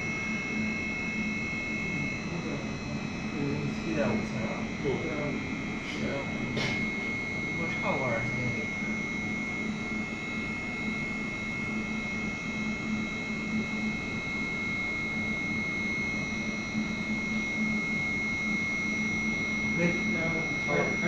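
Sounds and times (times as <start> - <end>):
electric motor whirring with whine: 0.0 - 21.0.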